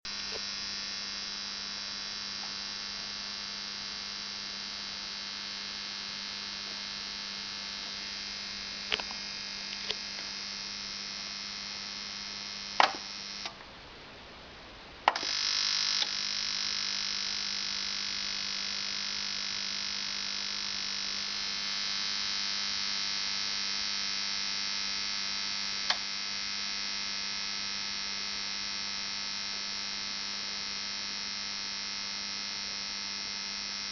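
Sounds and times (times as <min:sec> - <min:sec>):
power supply buzzing: 0:00.1 - 0:13.6, 0:15.0 - 0:33.9.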